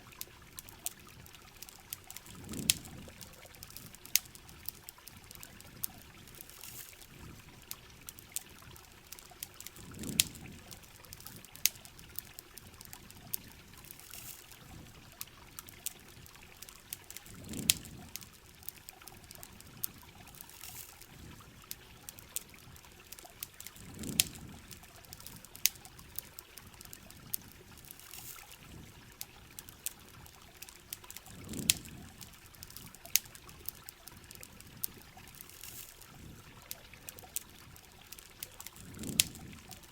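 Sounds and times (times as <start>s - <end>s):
campfire crackling: 0.0s - 39.9s
rain falling: 0.0s - 39.9s
water trickling and dripping: 0.0s - 39.9s.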